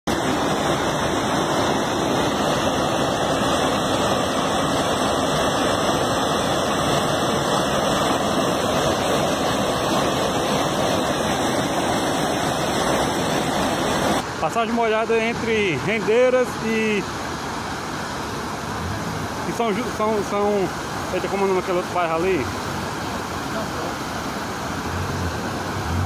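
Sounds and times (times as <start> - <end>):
floodwater rushing: 0.1 - 26.0.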